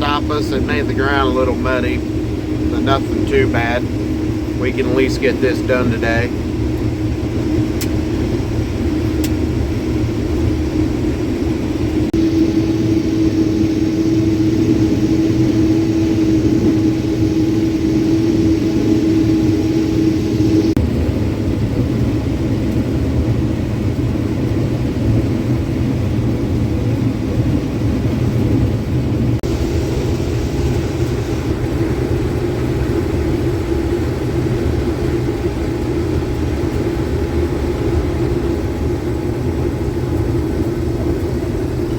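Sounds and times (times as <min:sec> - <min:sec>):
combine harvester drone: 0:00.0 - 0:41.9.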